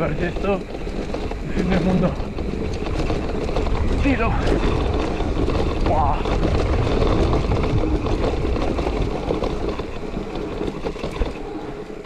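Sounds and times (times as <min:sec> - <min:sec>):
bike rattles and knocks: 0:00.0 - 0:12.0
wind and tyre rumble: 0:00.0 - 0:12.0.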